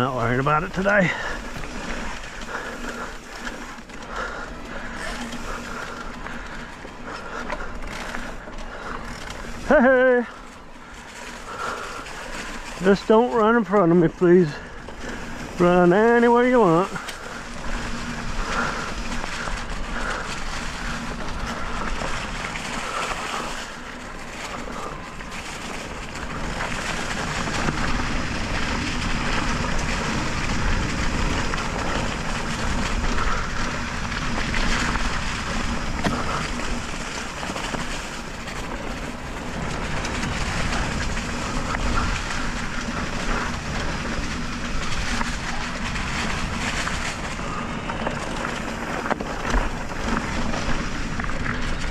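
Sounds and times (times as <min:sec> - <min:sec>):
bike tyres rolling on dirt: 0:00.0 - 0:51.9.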